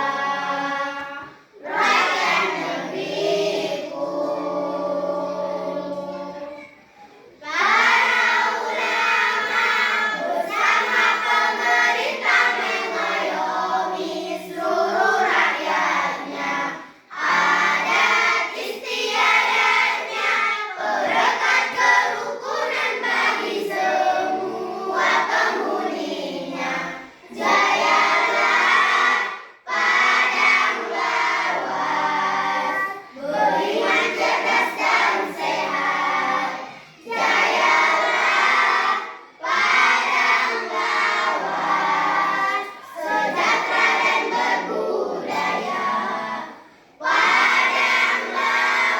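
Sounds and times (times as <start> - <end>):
choir of young voices singing: 0.0 - 48.9.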